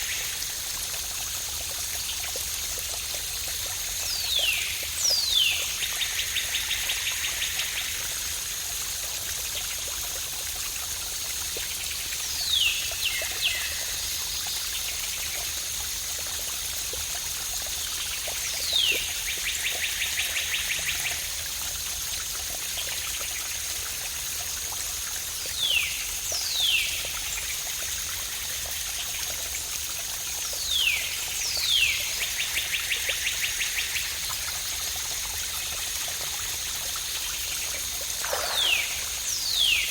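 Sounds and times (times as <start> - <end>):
waterfall water running: 0.0 - 39.9.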